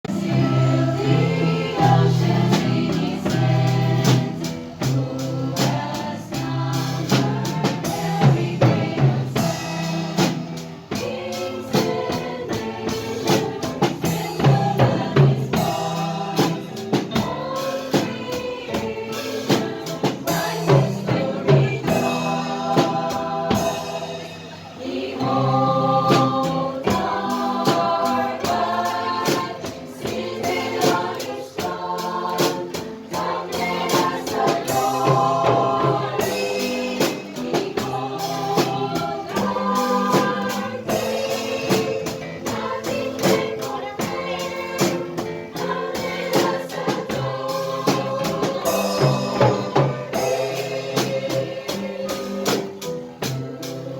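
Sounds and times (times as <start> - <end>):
choir singing gospel: 0.0 - 53.9.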